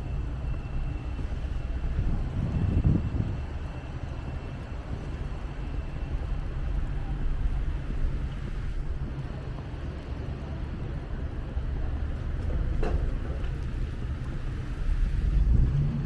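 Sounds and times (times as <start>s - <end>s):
city traffic: 0.0s - 16.0s
wind buffeting microphone: 0.0s - 16.0s.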